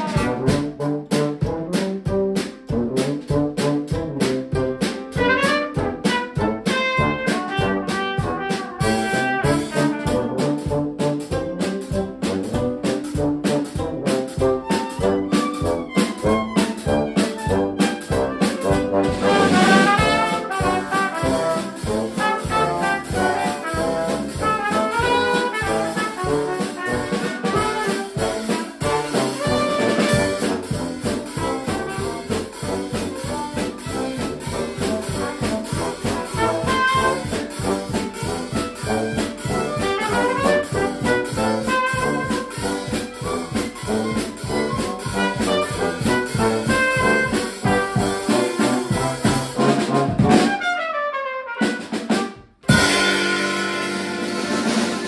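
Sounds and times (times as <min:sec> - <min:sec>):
small brass band playing: 0:00.0 - 0:55.0.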